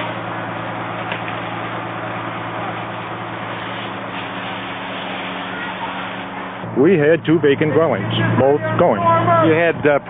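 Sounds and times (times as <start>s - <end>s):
fire engine running: 0.0s - 10.0s.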